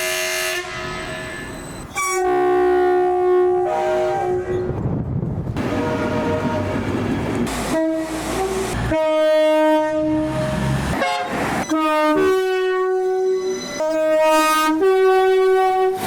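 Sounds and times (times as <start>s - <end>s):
locomotive air horn blasts: 0.0s - 4.8s, 5.6s - 6.9s, 7.5s - 16.0s
train rumbling along track: 0.0s - 16.0s.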